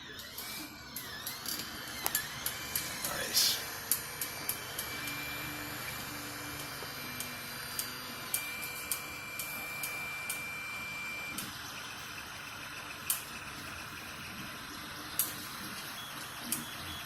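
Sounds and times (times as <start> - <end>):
fan hum: 0.0 - 15.4
stepper motors whining: 0.0 - 17.0.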